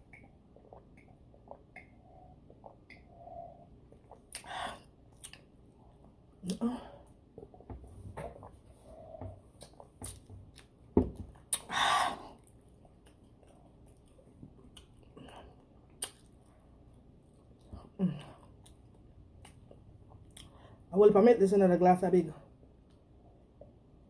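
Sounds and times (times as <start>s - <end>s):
person chewing food: 0.0s - 20.7s.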